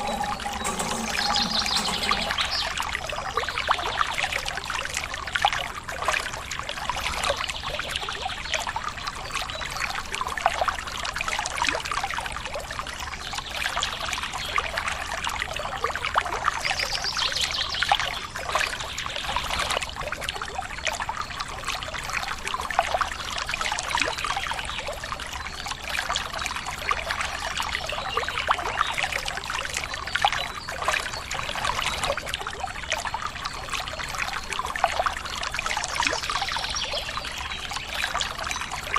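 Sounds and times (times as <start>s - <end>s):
water pouring and trickling: 0.0s - 38.9s.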